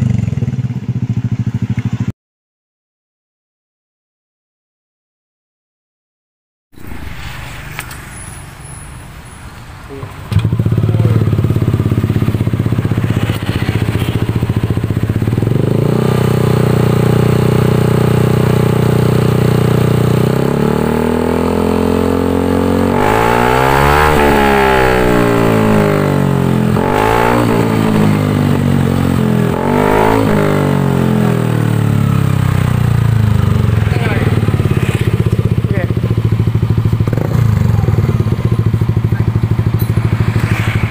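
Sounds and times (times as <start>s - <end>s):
scooter engine revving: 6.8s - 40.9s.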